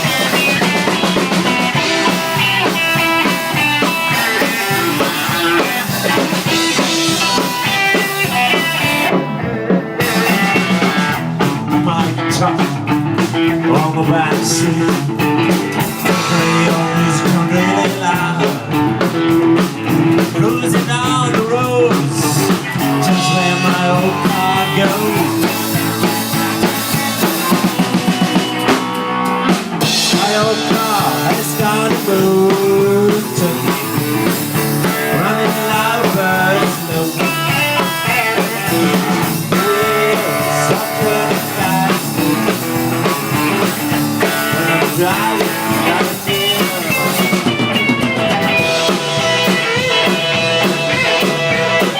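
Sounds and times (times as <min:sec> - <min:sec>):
electric guitar lead bending notes: 0:00.0 - 0:51.9
rock band playing: 0:00.0 - 0:51.9.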